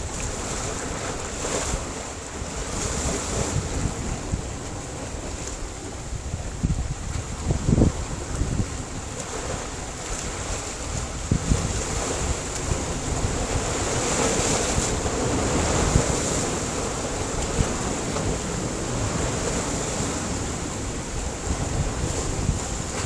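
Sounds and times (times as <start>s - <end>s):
surf washing against rocks: 0.0s - 23.0s
wind buffeting microphone: 0.0s - 23.0s.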